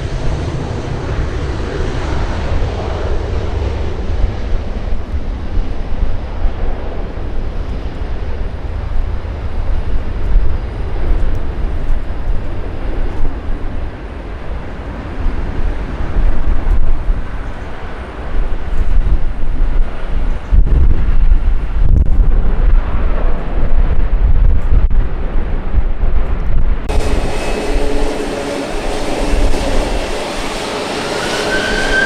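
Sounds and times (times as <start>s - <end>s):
aircraft engines rumbling: 0.0s - 32.0s.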